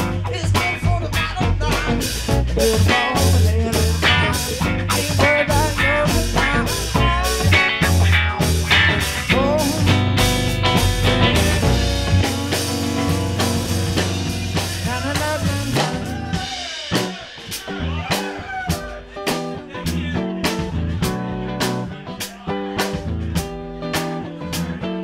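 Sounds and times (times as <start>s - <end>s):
drum kit steady beat: 0.0s - 25.0s
electric guitar lead lines: 0.0s - 25.0s.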